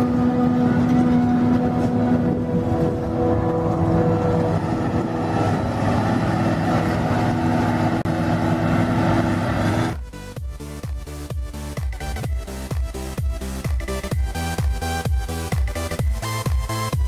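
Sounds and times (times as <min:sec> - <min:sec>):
engine and chopper hum: 0:00.0 - 0:17.0.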